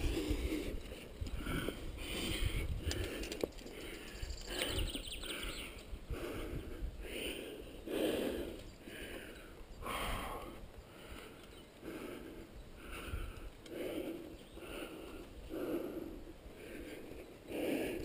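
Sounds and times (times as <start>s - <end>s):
person breathing heavily: 0.0s - 18.0s.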